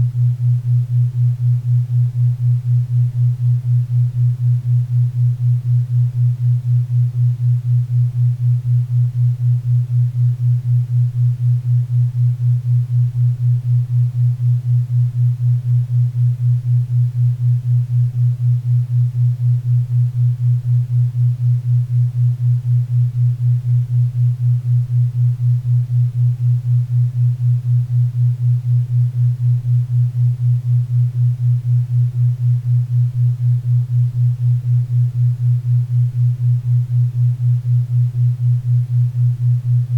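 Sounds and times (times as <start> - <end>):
low pulsing hum tone: 0.0 - 39.9.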